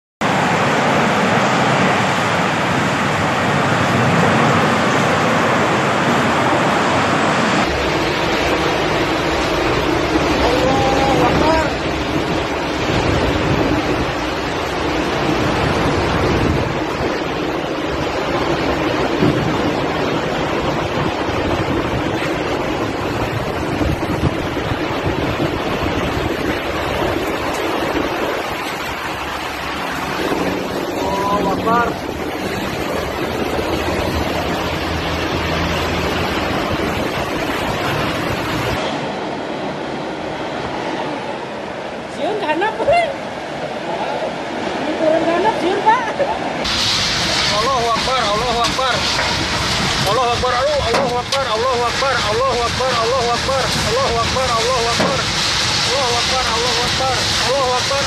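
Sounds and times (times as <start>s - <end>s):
strong wind rushing: 0.2s - 42.1s, 42.9s - 58.0s
rain: 0.2s - 58.0s.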